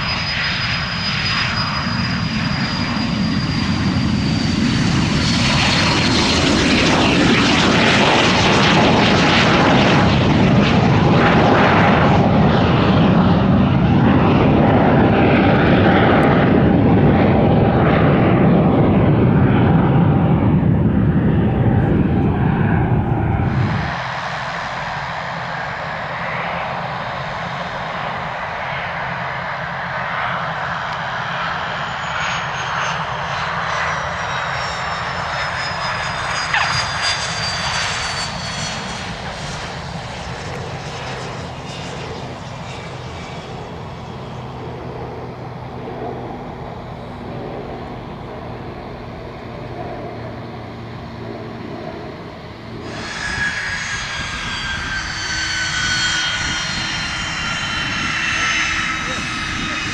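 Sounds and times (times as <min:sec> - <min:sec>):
high engine whines: 0:00.0 - 0:59.9
jet engine rumble: 0:00.0 - 0:59.9.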